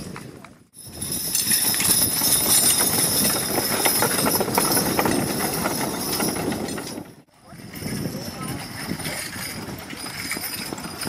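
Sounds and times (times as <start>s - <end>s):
harness rattling: 0.9s - 11.0s
horse hoofbeats: 0.9s - 11.0s.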